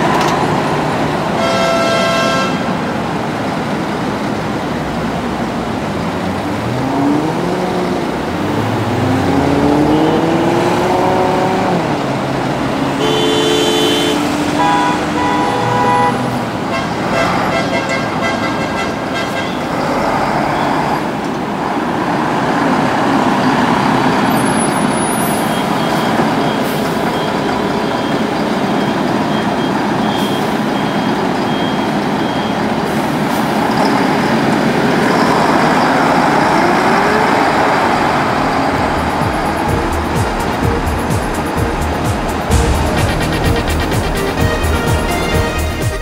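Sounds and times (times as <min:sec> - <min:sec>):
diesel bus driving past: 0:00.0 - 0:46.0
road and traffic noise: 0:00.0 - 0:46.0.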